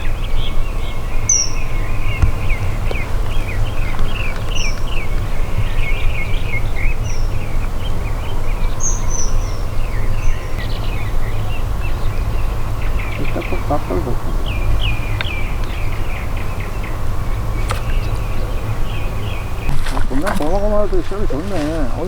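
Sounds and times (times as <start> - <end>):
wild birds chirping and singing: 0.0 - 22.0.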